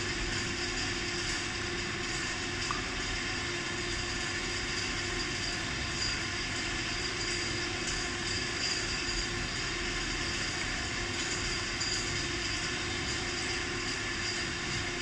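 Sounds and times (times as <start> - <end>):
background hum and hiss: 0.0 - 15.0
faint constant tone: 0.0 - 15.0.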